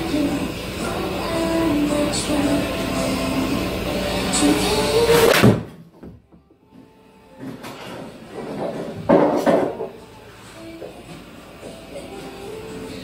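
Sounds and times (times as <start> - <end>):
background music: 0.0 - 5.6, 6.2 - 13.0.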